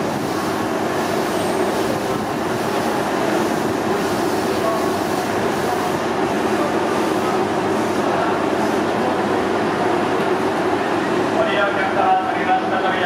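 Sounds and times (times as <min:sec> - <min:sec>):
crowd noise: 0:00.0 - 0:13.0
trains rumbling and humming: 0:00.0 - 0:13.0.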